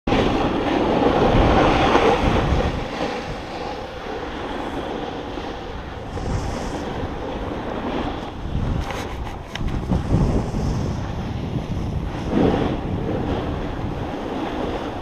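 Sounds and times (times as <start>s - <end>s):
snowboard scraping over snow: 0.1s - 15.0s
wind rumble on microphone: 0.1s - 15.0s.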